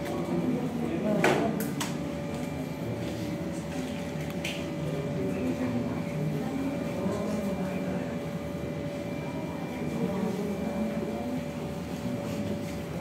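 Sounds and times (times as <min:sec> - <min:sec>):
people murmuring: 0:00.0 - 0:13.0.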